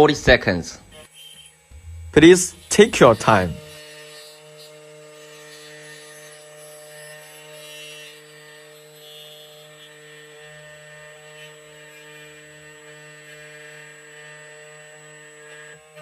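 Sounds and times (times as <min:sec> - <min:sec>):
key cutting machine humming: 0:00.8 - 0:14.5.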